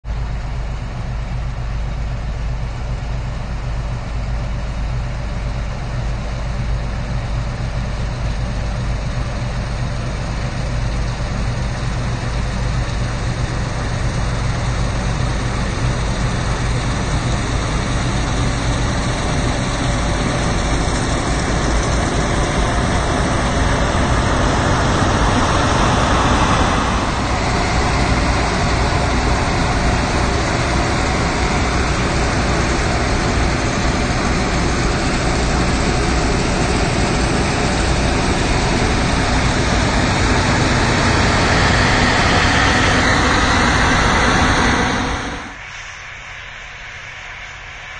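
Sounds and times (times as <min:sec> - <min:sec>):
combine harvester rumbling: 0:00.1 - 0:45.9.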